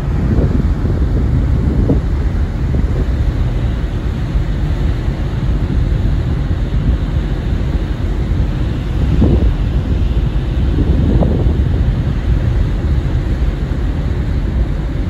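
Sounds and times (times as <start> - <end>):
ship engine low rumble: 0.0 - 15.0
wind buffeting microphone: 0.0 - 15.0.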